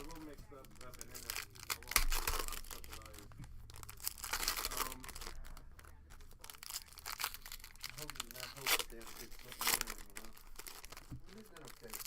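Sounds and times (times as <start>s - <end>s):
plastic wrappers tearing and crinkling: 0.0s - 12.0s.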